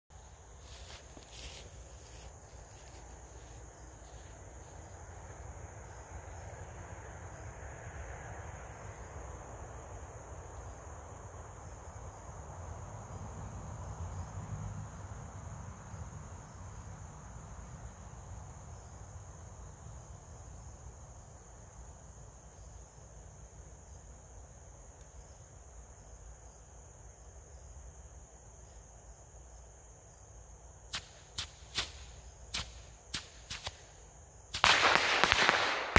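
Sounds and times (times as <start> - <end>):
crickets chirping: 0.1 - 35.9.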